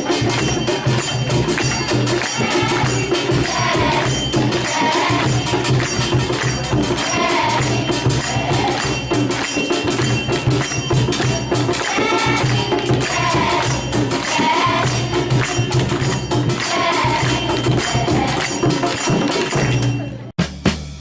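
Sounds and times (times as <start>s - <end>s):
voices singing: 0.0s - 20.1s
jingling tambourine percussion: 0.0s - 21.0s.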